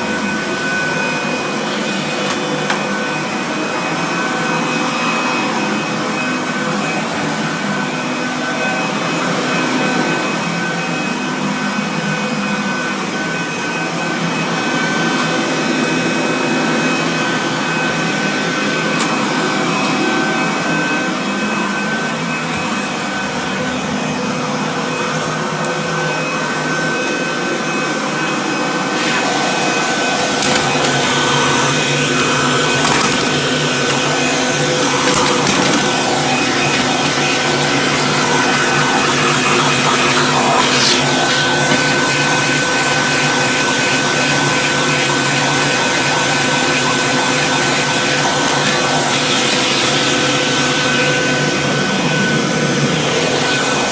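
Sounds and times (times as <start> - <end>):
upright vacuum cleaner running: 0.0 - 53.9.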